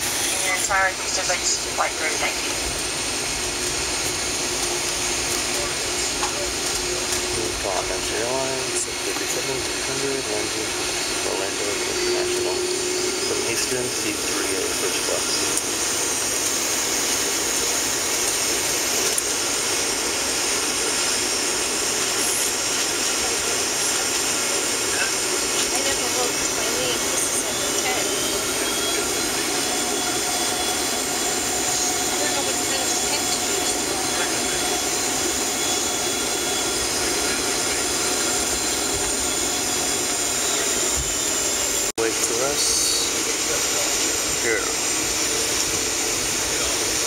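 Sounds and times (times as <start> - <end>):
jet engines idling: 0.0 - 47.0.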